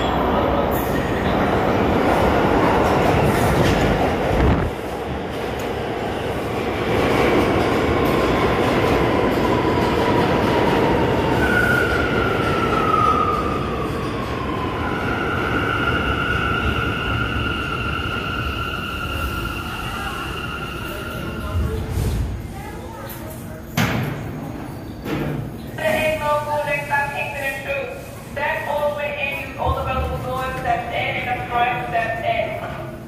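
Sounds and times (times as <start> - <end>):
subway train rumble and rail clatter: 0.0 - 33.0.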